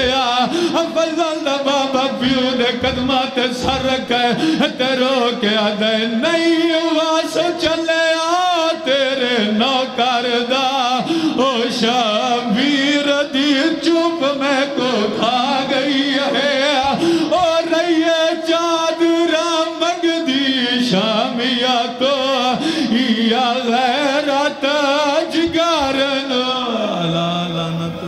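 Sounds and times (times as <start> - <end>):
man chanting a lament: 0.0 - 28.0.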